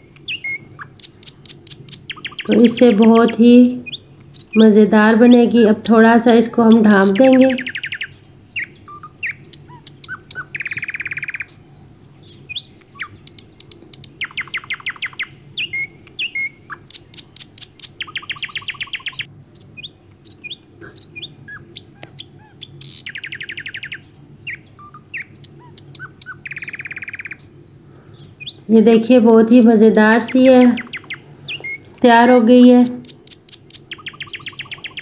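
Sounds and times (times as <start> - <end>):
birds chirping and trilling: 0.0 - 35.0.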